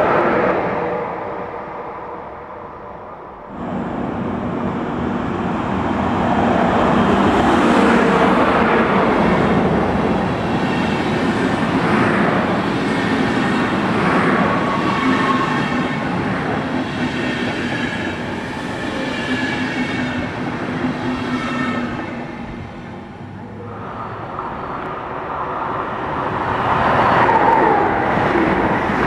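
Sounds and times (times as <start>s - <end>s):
train coaches rolling on rails: 3.6s - 29.0s.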